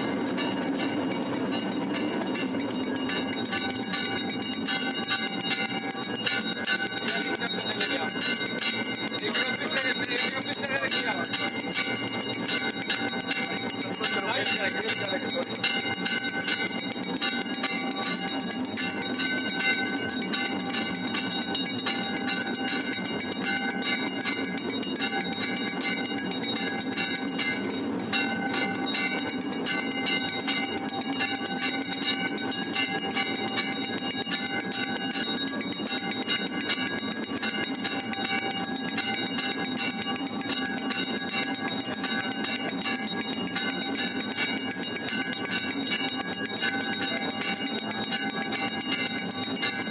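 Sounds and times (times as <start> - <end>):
temple bells ringing: 0.0 - 49.9.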